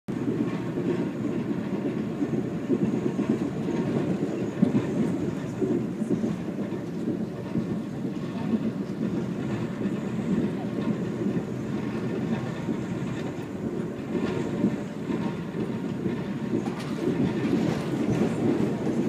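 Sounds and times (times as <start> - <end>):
passenger train rumble from inside: 0.1 - 19.0.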